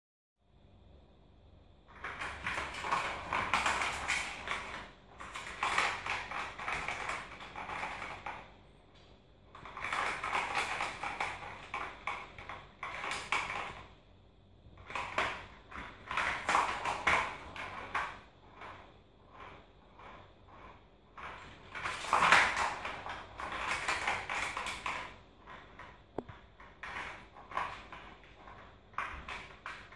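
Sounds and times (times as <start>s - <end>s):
plastic ball rolling and rattling: 1.9s - 29.9s.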